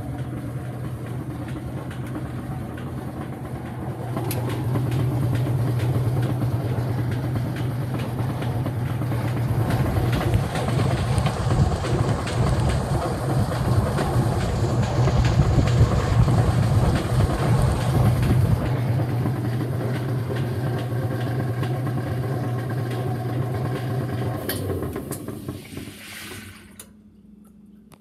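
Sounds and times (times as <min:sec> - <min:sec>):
rattling mechanical noise: 0:00.0 - 0:26.9
washing machine running: 0:00.0 - 0:27.2
motor hum: 0:00.0 - 0:28.0.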